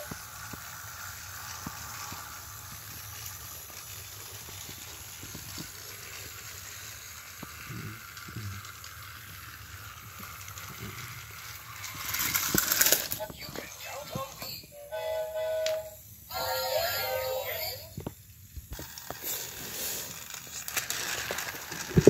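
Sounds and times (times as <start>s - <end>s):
toy engine whirring: 0.0s - 22.0s.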